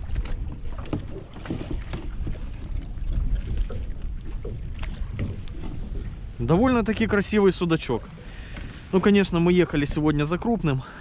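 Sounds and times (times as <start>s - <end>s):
wind rumble on microphone: 0.0s - 10.7s.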